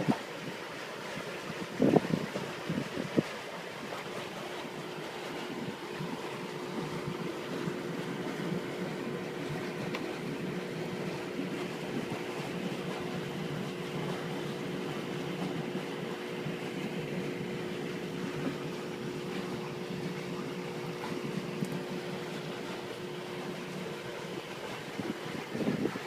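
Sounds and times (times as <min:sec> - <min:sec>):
aerator machine hum: 0:00.0 - 0:26.0
water churning: 0:00.0 - 0:26.0.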